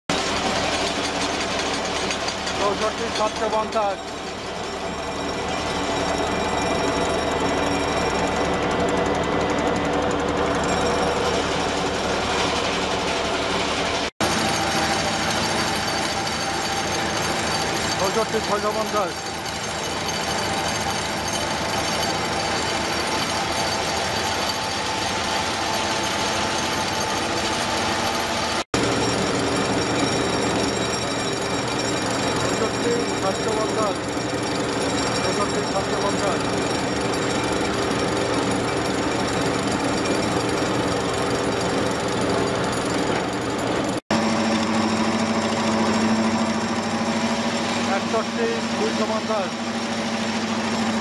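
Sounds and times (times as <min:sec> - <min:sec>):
vibratory pile hammer rattling: 0:00.1 - 0:51.0.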